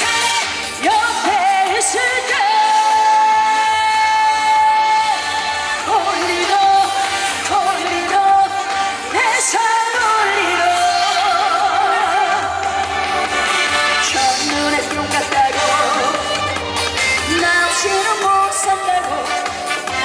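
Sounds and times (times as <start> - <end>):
amplified band backing track: 0.0 - 20.0
woman singing: 0.0 - 20.0.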